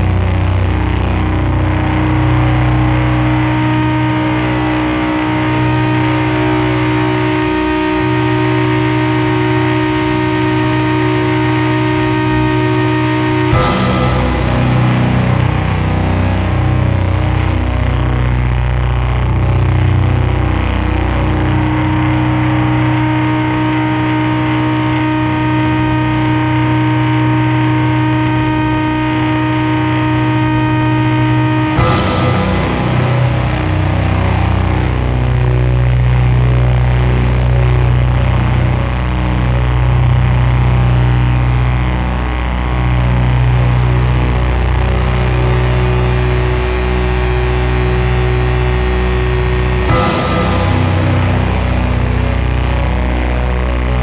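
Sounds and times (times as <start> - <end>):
distorted electric guitar drone: 0.0 - 54.0.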